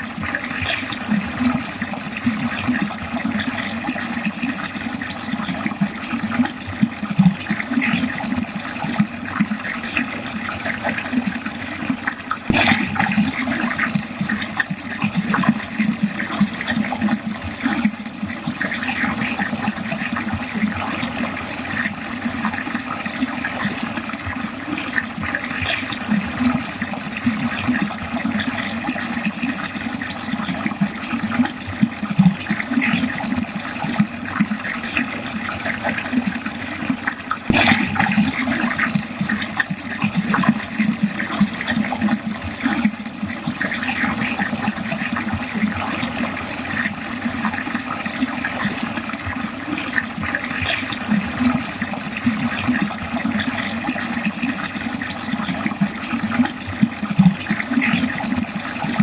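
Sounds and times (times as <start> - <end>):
water flowing down a drain: 0.0 - 59.0.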